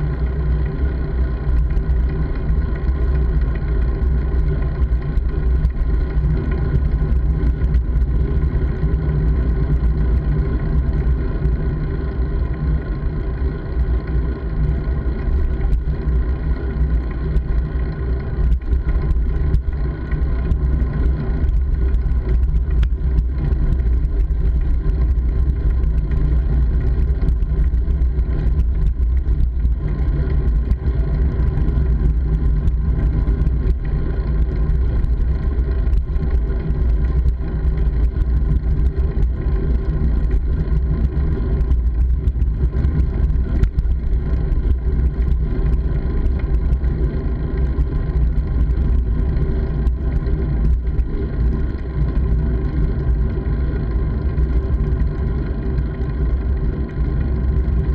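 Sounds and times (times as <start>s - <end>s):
wind and road rumble while riding: 0.0s - 57.9s.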